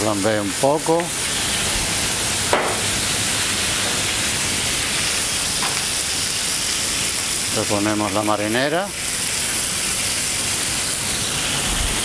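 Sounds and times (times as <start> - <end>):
seafood sizzling in frying pan: 0.0 - 12.0.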